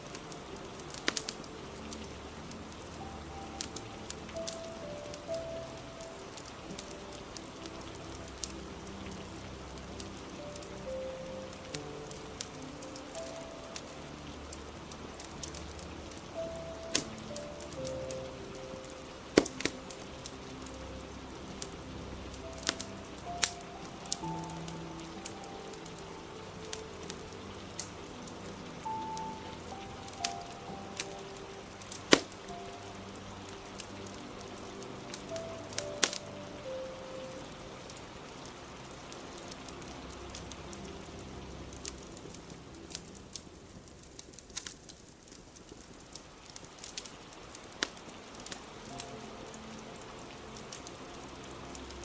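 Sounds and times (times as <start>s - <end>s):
rain hissing: 0.0s - 52.0s
soft held music notes: 0.0s - 52.0s
wood fire crackling and popping: 0.0s - 52.0s.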